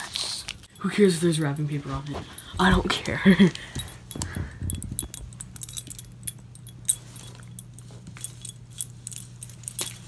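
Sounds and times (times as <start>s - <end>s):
steady low hum: 0.5s - 10.0s
dog tags jingling: 0.6s - 10.0s.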